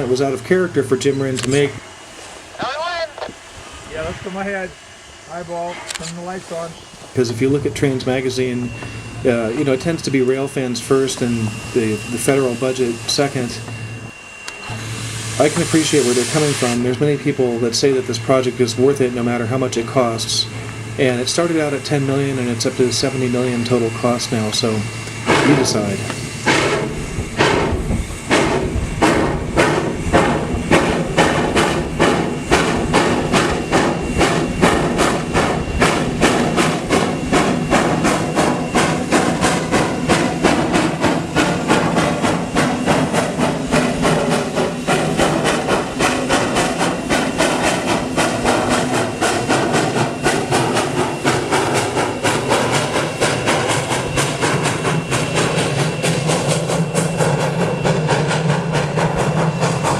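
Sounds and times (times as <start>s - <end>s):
steam hissing: 0.0s - 59.9s
steam locomotive exhaust chuffs: 0.0s - 59.9s.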